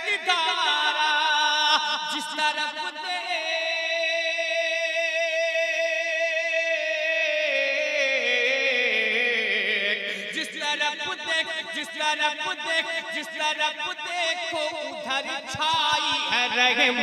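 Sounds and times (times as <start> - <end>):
man singing a long note: 0.0 - 17.0.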